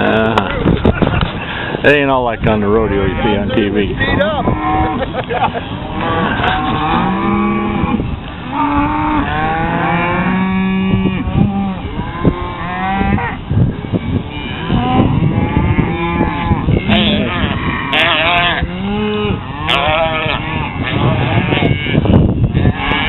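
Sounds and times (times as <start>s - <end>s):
cattle mooing and bawling: 2.9s - 23.0s.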